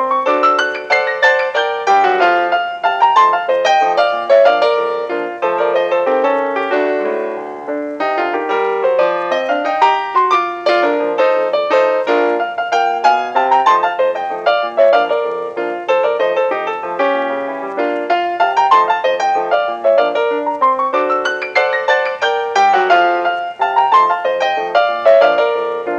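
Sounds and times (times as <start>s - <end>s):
lively solo piano music: 0.0s - 25.9s.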